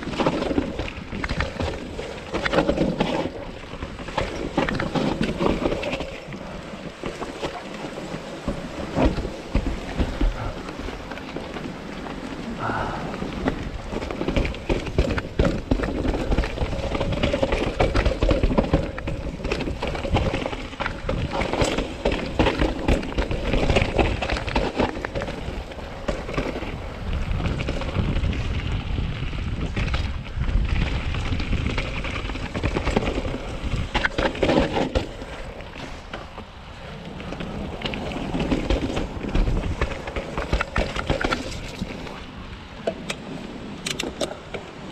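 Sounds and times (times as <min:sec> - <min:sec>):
bike rattling and knocking: 0:00.0 - 0:11.8, 0:12.6 - 0:36.6, 0:37.3 - 0:42.2
bike tyres over dirt and roots: 0:00.0 - 0:44.9
wind buffeting microphone: 0:00.0 - 0:44.9.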